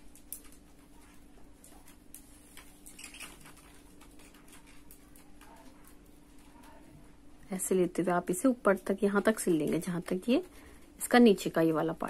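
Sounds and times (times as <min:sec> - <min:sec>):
wool rustling and needle ticks: 0:00.0 - 0:12.0.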